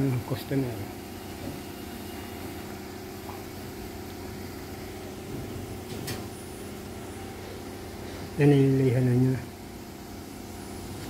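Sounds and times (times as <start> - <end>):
ventilation fans humming: 0.0 - 11.0.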